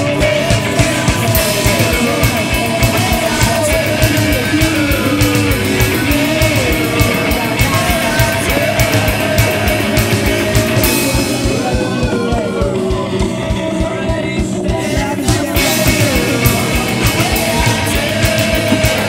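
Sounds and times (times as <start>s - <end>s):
electric guitar: 0.0s - 19.0s
fast rock drum beat: 0.0s - 19.0s
person singing: 0.0s - 19.0s.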